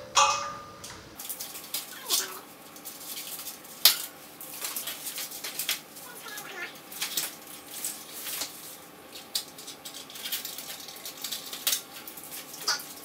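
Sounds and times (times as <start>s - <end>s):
packing material rustling: 1.2s - 13.0s.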